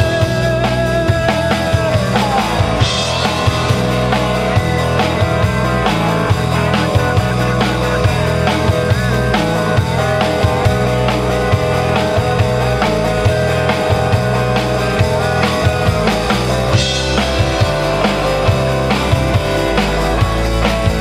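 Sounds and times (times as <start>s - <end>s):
drum kit beat: 0.0s - 21.0s
live rock band playing: 0.0s - 21.0s.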